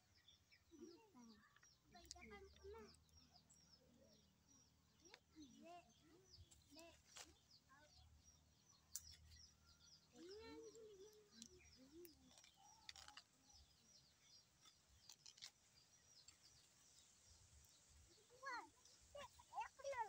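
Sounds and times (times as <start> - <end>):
bird chirps: 0.0 - 20.0.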